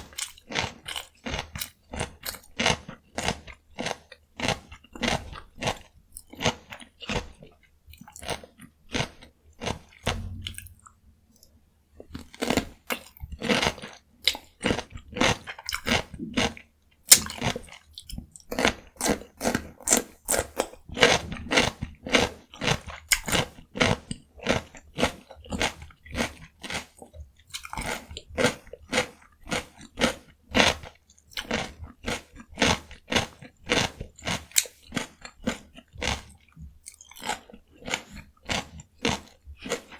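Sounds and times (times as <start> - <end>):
cucumber crunching while chewed: 0.0 - 10.4, 13.5 - 39.9.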